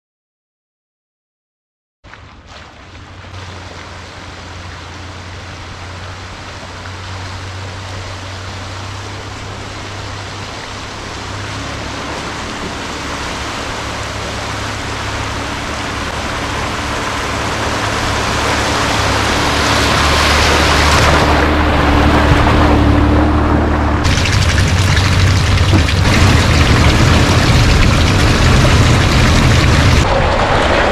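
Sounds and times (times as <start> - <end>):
car engine running: 2.1 - 30.2
broad rushing noise: 2.4 - 30.9.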